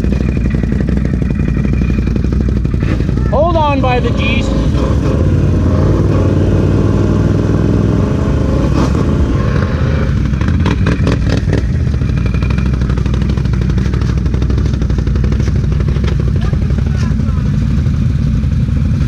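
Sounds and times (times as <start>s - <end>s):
atv engines running: 0.0s - 19.0s.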